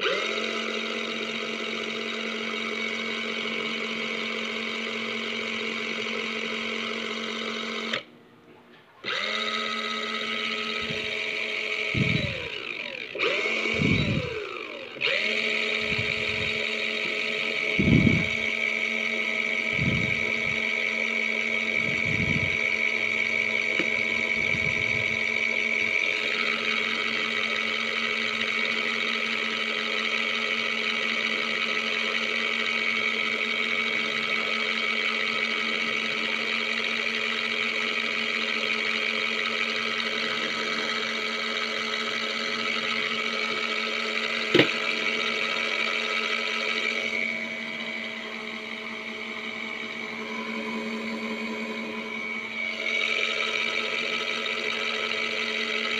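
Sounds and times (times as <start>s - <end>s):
washing machine motor humming: 0.0s - 8.1s, 9.0s - 55.9s.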